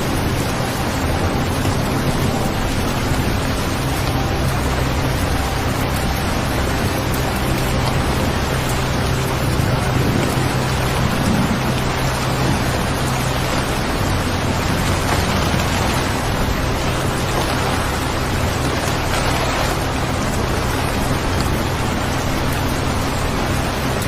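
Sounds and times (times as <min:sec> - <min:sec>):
low steady hum: 0:00.0 - 0:24.0
steady rain hiss: 0:00.0 - 0:24.0.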